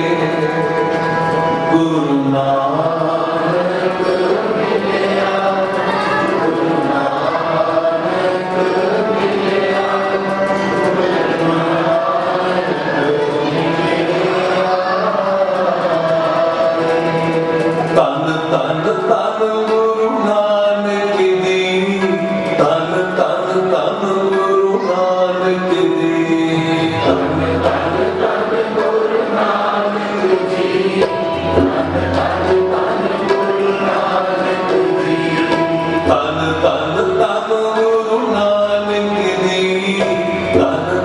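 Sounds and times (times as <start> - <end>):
harmoniums: 0.0 - 41.0
tabla: 0.0 - 41.0
men singing a hymn: 1.7 - 41.0.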